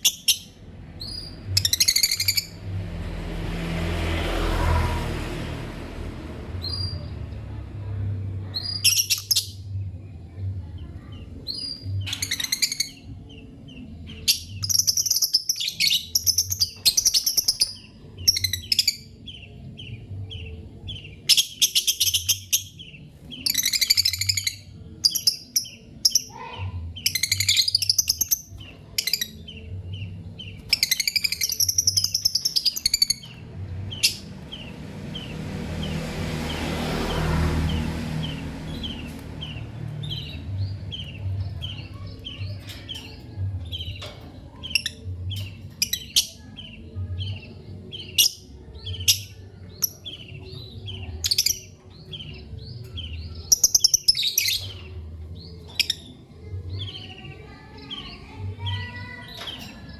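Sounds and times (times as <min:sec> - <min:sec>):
lovebirds chirping: 0:00.0 - 0:05.4, 0:06.4 - 0:59.9.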